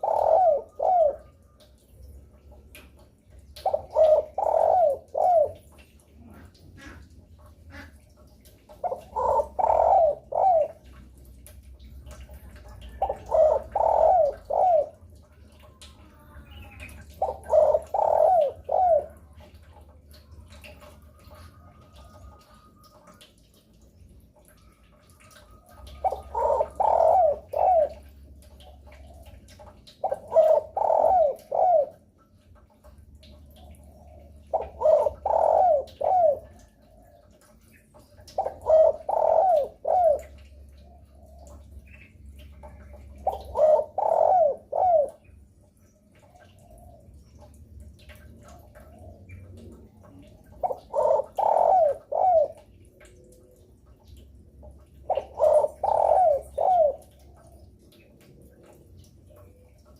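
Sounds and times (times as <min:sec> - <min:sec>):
dove cooing: 0:00.0 - 0:08.0, 0:08.7 - 0:15.7, 0:16.5 - 0:23.2, 0:24.5 - 0:45.4, 0:48.1 - 0:59.9.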